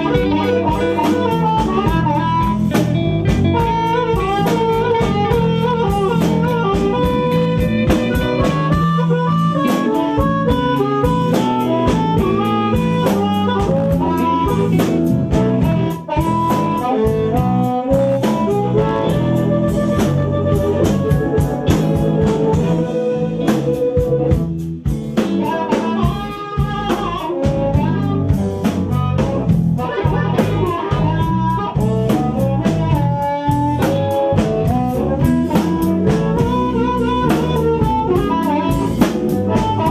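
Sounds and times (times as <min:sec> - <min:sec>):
blues harmonica: 0:00.0 - 0:39.9
drum kit: 0:00.0 - 0:39.9
electric guitar: 0:00.0 - 0:39.9.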